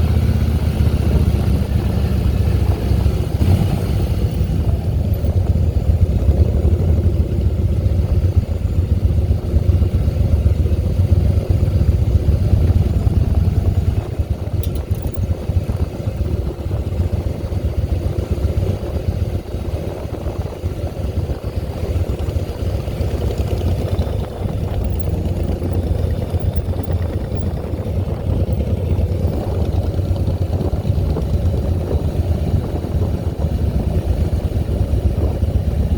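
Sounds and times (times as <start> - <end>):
motorcycle engine rumbling: 0.0 - 35.9.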